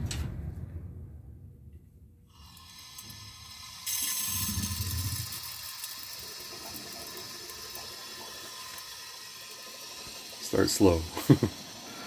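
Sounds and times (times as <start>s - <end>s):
water hissing into pipes: 2.3s - 12.0s.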